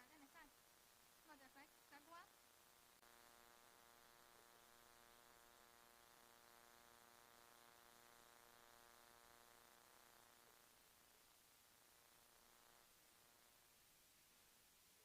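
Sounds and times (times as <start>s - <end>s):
faint steady buzz: 0.0s - 15.0s.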